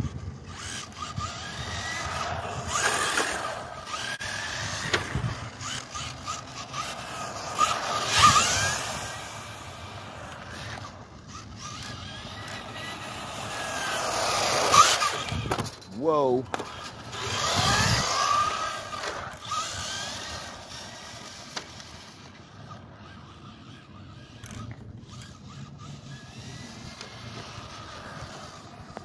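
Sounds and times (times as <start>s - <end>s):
rc car electric motor whining: 0.0s - 29.0s.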